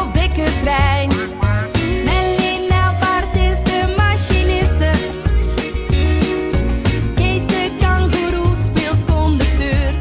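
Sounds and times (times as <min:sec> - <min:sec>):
background music with pulsing bass: 0:00.0 - 0:10.0.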